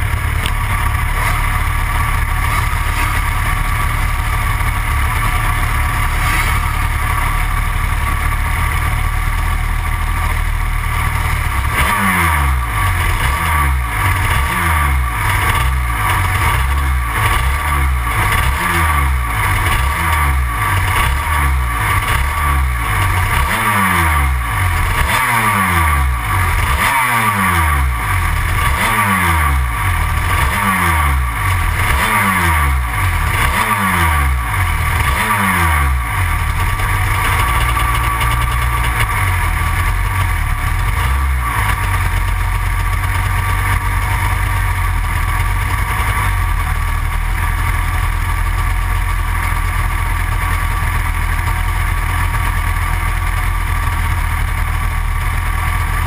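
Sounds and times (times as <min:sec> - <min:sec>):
two-stroke engine revving and idling: 0:00.0 - 0:56.0.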